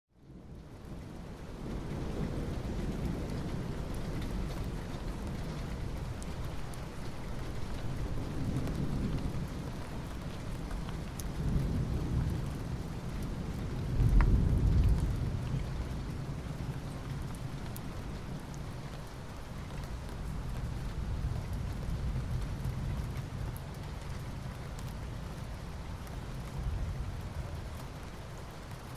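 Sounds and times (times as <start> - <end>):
soft rain on asphalt: 0.1 - 28.9.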